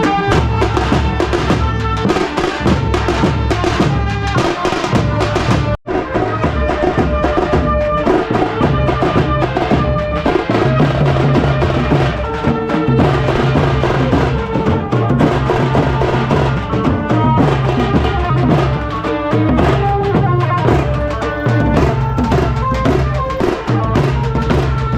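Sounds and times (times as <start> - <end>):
fast dense drumming: 0.0 - 24.9.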